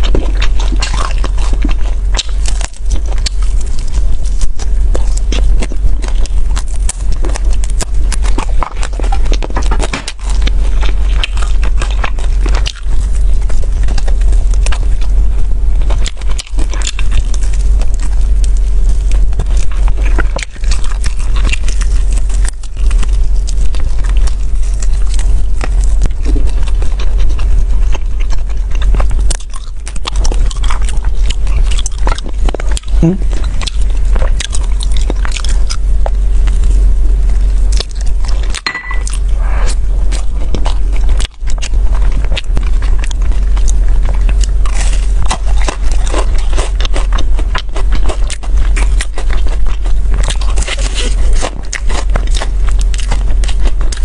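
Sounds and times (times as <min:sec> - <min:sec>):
steady low hum: 0:00.0 - 0:54.0
wet chewing and lip smacking: 0:00.0 - 0:54.0.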